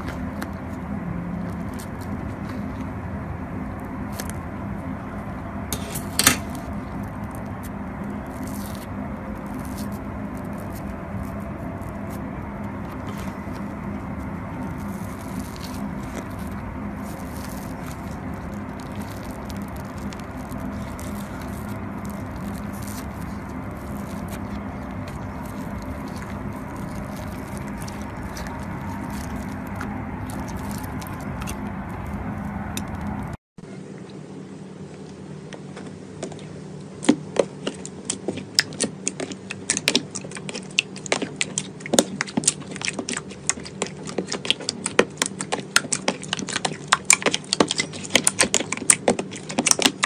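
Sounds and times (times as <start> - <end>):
crackling and scraping of filling: 0.0 - 33.4, 35.7 - 50.0
steady low hum: 0.0 - 50.0.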